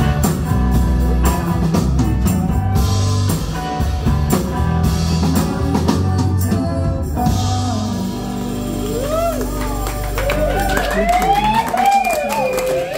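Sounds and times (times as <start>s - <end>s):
bass guitar: 0.0s - 12.9s
drum kit beat: 0.0s - 12.9s
electric guitar: 0.0s - 12.9s.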